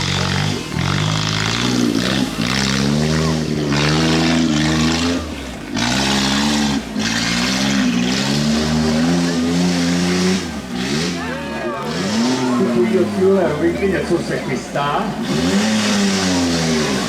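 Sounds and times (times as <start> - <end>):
tractor engine revving: 0.0 - 17.0.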